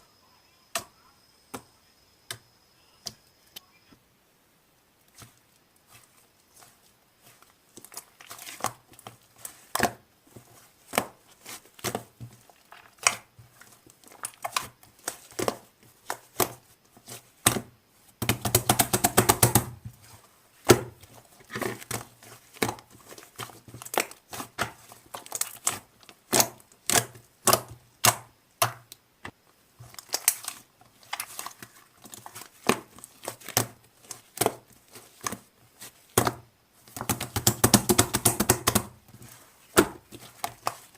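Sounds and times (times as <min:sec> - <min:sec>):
slime squelching and popping: 0:05.0 - 0:40.9.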